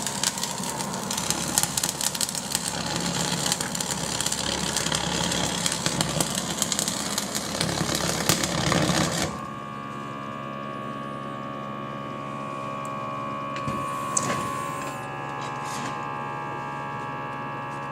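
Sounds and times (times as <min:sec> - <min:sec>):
steady electrical hum: 0:00.0 - 0:17.9.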